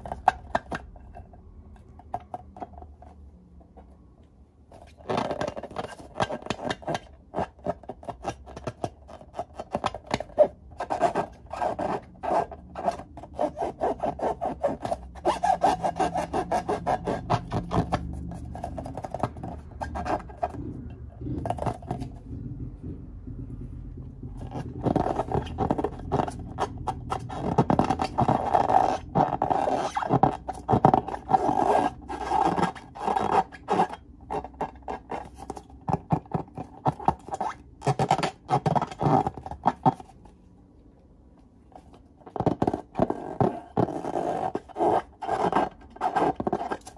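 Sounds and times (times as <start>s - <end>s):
hands rubbing rubber balloons: 4.7s - 40.3s, 41.8s - 46.9s.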